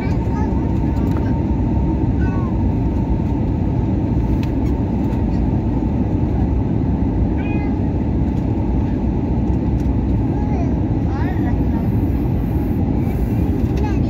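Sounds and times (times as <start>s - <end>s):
airliner cabin roar: 0.0s - 14.0s.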